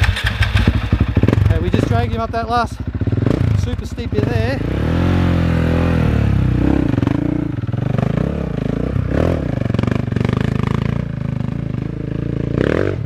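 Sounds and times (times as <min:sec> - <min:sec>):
motorcycle engine climbing: 0:00.0 - 0:13.0.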